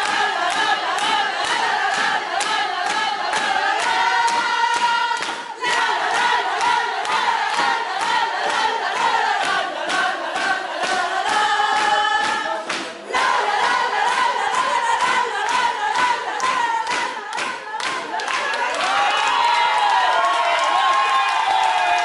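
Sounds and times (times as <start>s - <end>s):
group singing together: 0.0s - 19.9s
hands clapping in rhythm: 0.0s - 22.0s.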